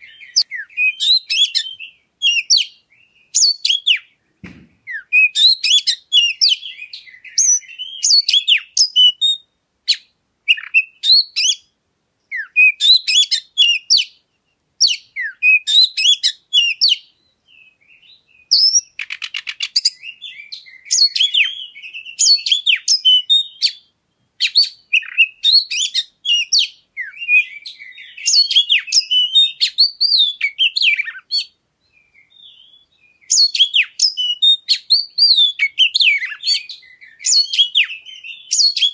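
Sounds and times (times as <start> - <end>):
magpie-robin singing: 0.0 - 4.2, 4.8 - 38.9.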